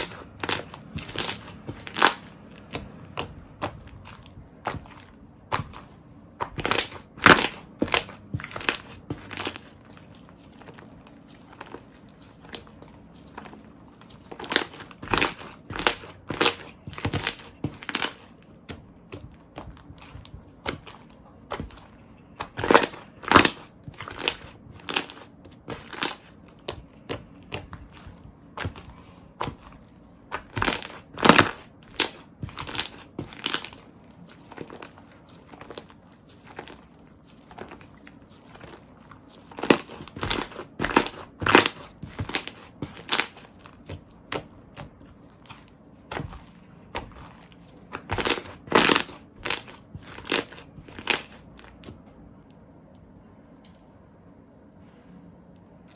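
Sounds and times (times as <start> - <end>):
slime crackling and popping: 0.0 - 52.0.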